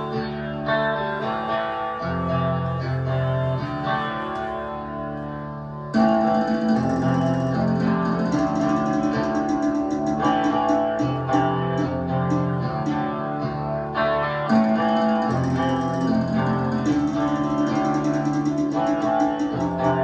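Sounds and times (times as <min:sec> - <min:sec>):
guitar music through loudspeakers: 0:00.0 - 0:20.0.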